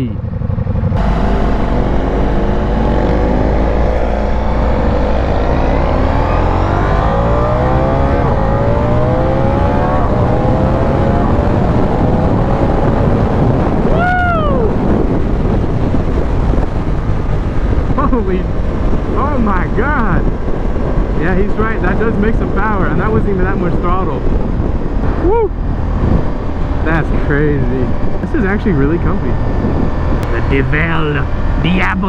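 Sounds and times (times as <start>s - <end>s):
motorcycle engine accelerating: 0.2s - 32.0s
heavy wind rush: 0.7s - 32.0s.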